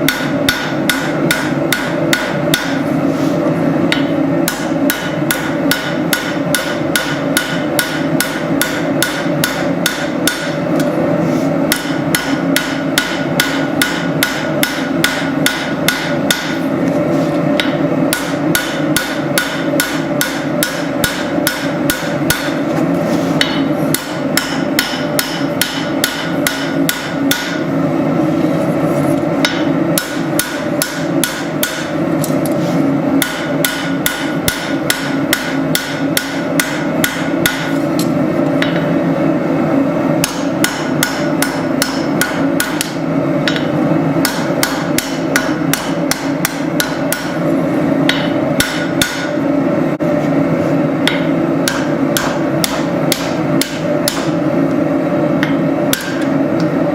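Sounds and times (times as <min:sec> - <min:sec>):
hammer striking steel on anvil: 0:00.0 - 0:02.9, 0:03.9 - 0:11.0, 0:11.6 - 0:16.6, 0:17.5 - 0:22.7, 0:23.4 - 0:27.7, 0:29.4 - 0:32.0, 0:33.2 - 0:39.0, 0:40.2 - 0:49.5, 0:51.0 - 0:54.4, 0:55.4 - 0:56.4
steady background noise: 0:00.0 - 0:56.9.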